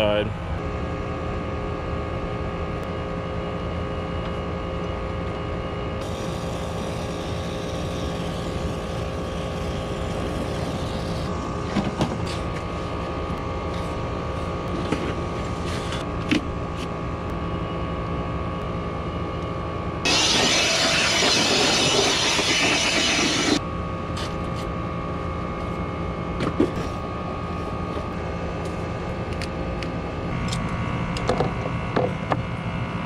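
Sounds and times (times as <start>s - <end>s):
mechanical hum with low rumble: 0.0s - 33.0s.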